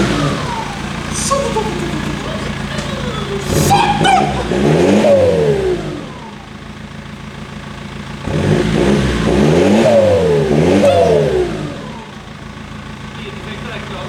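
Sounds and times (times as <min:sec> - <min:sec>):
diesel engine idling: 0:00.0 - 0:14.0
diesel engine revving: 0:00.0 - 0:14.0.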